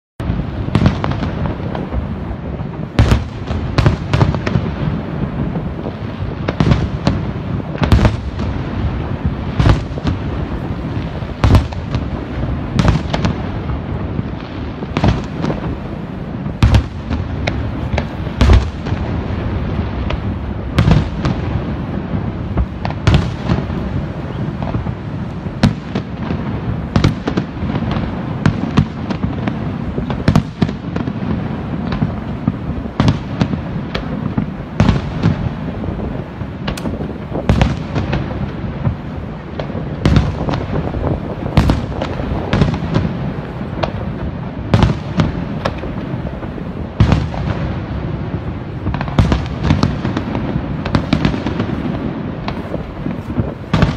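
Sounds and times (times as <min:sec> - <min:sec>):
fireworks bursting: 0:00.2 - 0:53.9.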